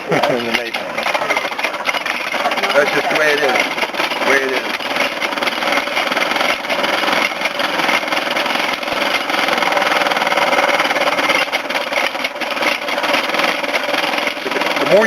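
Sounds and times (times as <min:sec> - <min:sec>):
machine running noise: 0:00.0 - 0:15.0.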